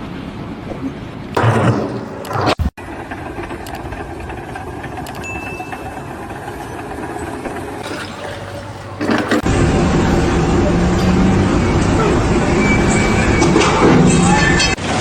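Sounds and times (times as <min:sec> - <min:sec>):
engine running: 0:01.2 - 0:15.0.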